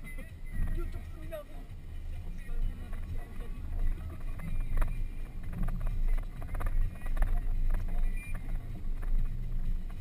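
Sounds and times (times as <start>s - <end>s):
engine and tyres rumbling: 0.0s - 10.0s.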